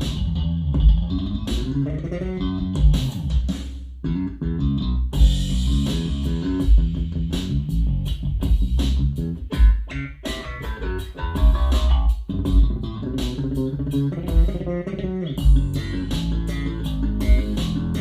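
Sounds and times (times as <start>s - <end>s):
electric bass guitar playing: 0.0s - 18.0s.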